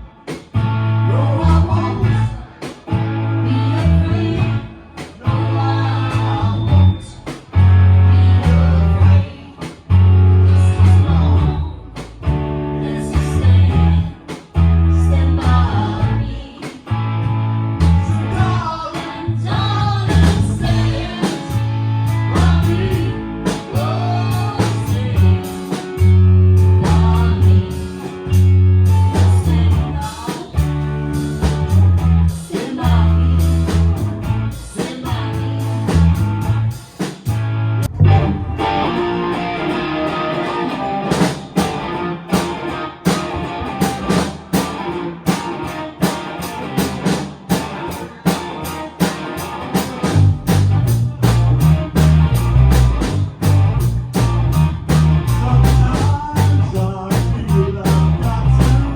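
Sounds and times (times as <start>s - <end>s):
live rock band playing: 0.0s - 58.9s.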